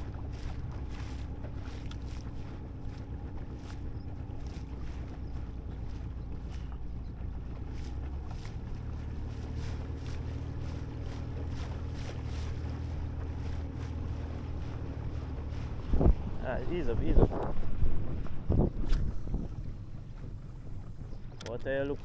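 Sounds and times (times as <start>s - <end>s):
wind on microphone: 0.0s - 21.5s
boat engine running: 0.0s - 22.0s
hull slapping water: 0.0s - 22.0s.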